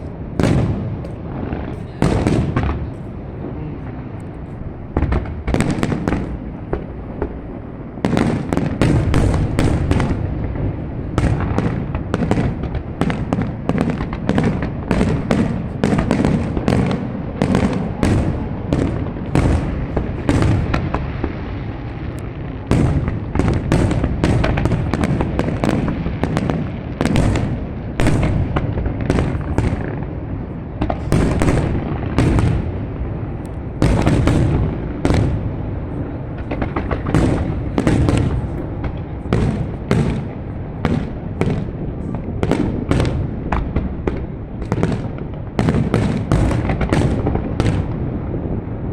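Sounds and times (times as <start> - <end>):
fireworks booming and cracking: 0.0 - 48.9.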